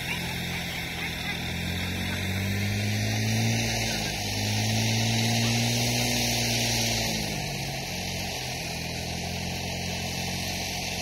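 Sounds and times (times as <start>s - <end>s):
machine motor running: 0.0s - 11.0s.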